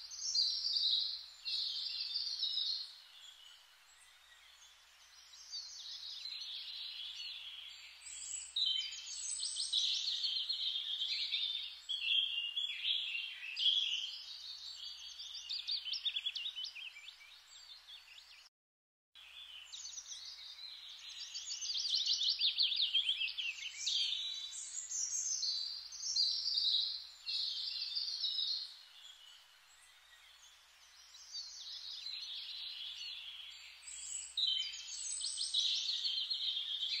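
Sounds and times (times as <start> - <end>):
birds chirping and trilling: 0.0 - 18.5, 19.2 - 37.0.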